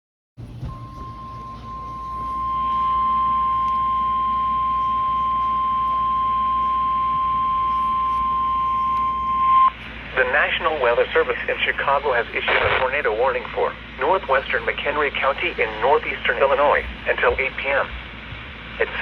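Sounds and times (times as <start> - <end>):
steady alarm tone: 0.4 - 18.2.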